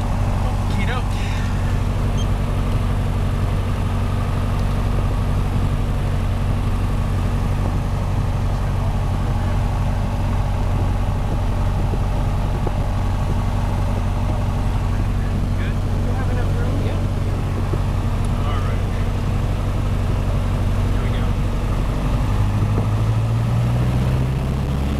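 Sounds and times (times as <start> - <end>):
aircraft piston engine drone: 0.0 - 24.9.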